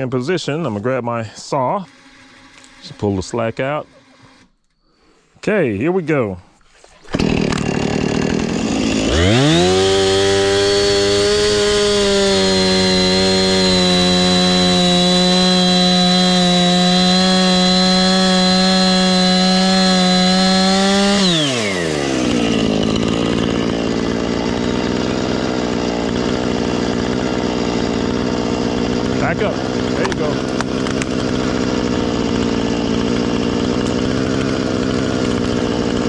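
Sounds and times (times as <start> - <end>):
chainsaw revving and cutting: 1.6 - 4.6, 7.0 - 36.0.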